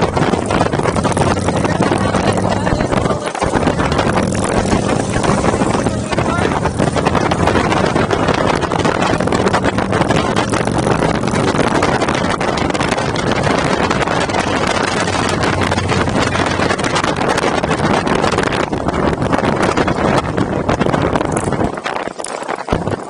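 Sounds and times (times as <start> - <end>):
motorcycle engine running: 0.0 - 21.6
wind buffeting microphone: 0.0 - 23.0.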